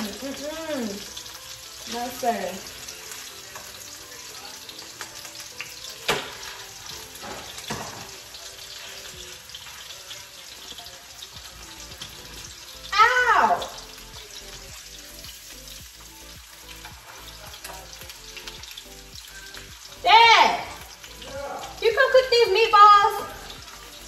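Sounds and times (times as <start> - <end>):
meatballs sizzling in oil: 0.0 - 24.0.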